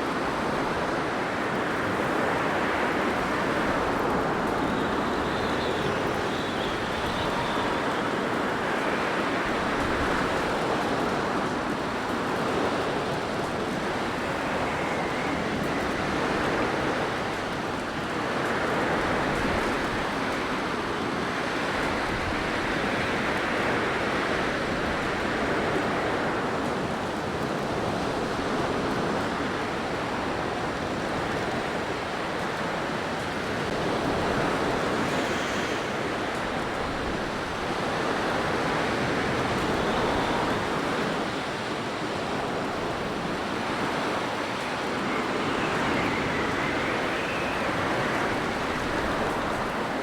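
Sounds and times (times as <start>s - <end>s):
blizzard wind blowing: 0.0s - 27.1s, 27.7s - 50.0s.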